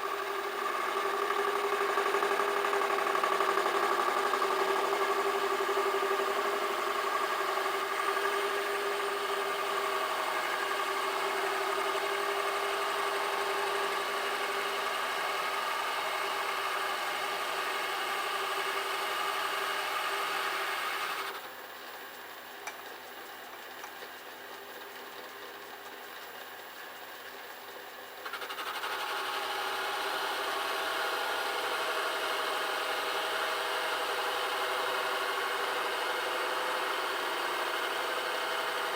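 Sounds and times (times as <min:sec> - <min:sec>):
metal lathe whining: 0:00.1 - 0:21.4, 0:28.3 - 0:38.9.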